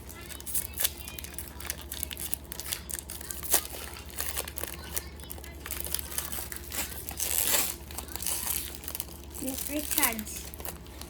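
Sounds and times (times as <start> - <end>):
plastic wrapper crinkling and tearing: 0.0 - 11.0.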